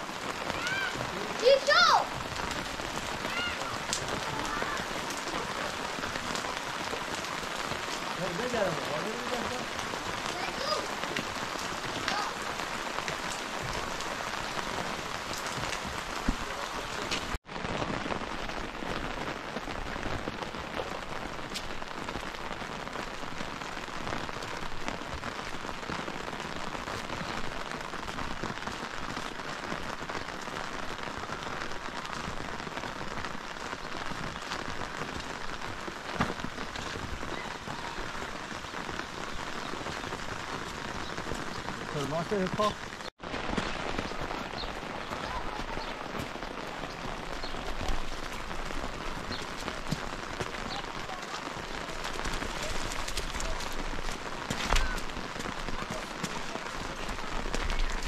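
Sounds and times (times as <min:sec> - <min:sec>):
heavy rain falling: 0:00.0 - 0:58.0
loud raindrops striking: 0:00.0 - 0:58.0.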